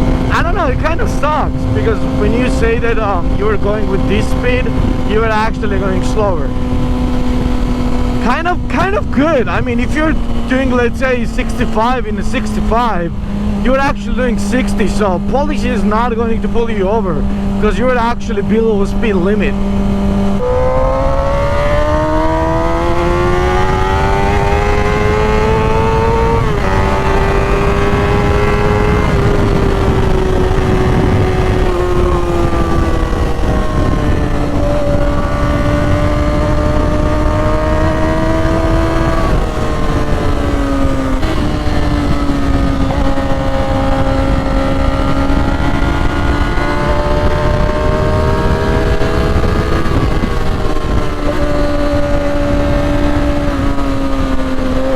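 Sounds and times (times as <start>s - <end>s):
motorcycle engine: 0.0s - 54.9s
wind on microphone: 0.0s - 54.9s.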